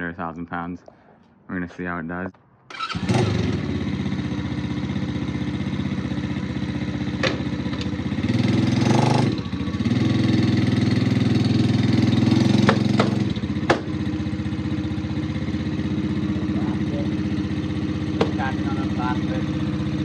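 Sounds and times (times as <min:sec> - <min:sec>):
small engine under load: 0:02.7 - 0:20.0.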